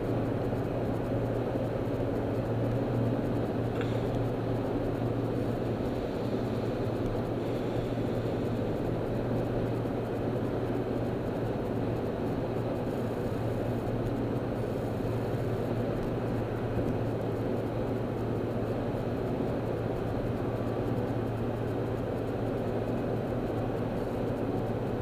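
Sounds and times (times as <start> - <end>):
car engine and road hum: 0.0 - 25.0.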